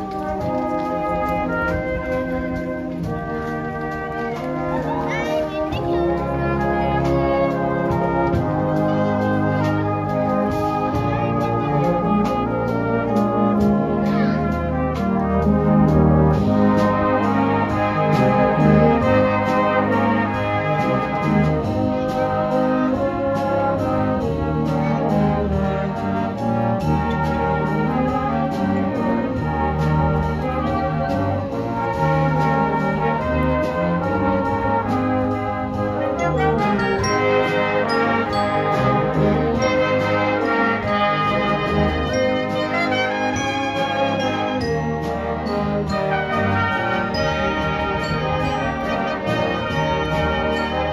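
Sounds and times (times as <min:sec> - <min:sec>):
brass band playing chords: 0:00.0 - 0:50.9.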